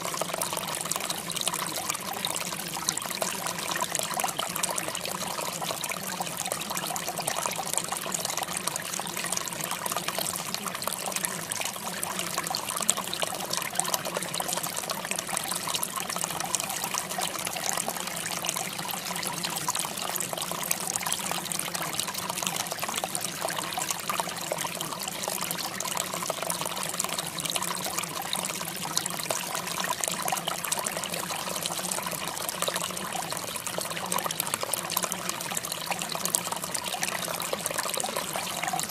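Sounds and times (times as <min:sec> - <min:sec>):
running water trickling: 0:00.0 - 0:38.9.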